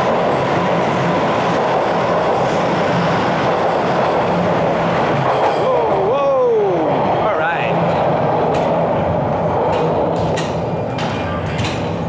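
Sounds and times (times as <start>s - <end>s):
subway train wheels on rails: 0.0s - 12.0s.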